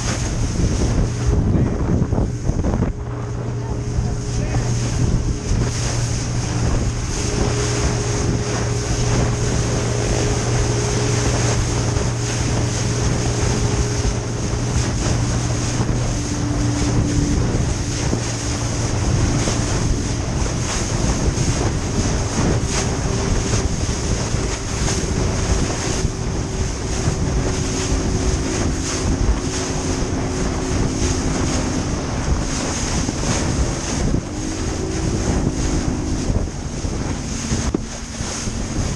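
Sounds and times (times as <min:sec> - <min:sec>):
boat motor running: 0:00.0 - 0:38.9
water rushing past hull: 0:00.0 - 0:38.9
wind buffeting microphone: 0:00.0 - 0:38.9.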